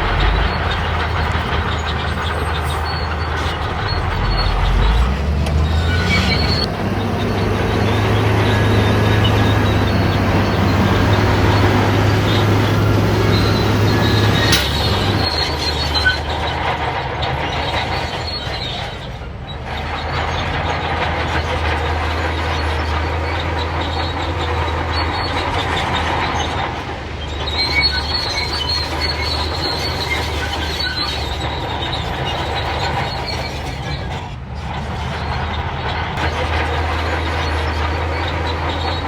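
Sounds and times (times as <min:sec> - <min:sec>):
bulldozer engine drone: 0:00.0 - 0:39.0
steel tracks clanking and squealing: 0:00.0 - 0:39.0.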